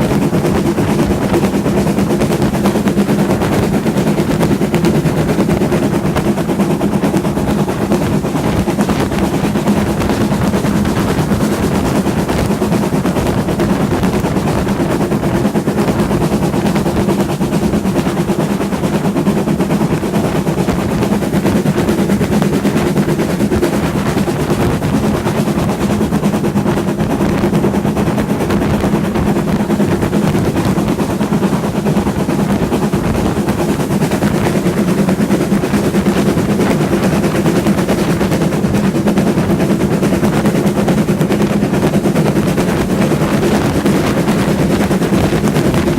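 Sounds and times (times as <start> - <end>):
steady low hum: 0.0 - 45.9
steam train rumbling: 0.0 - 45.9.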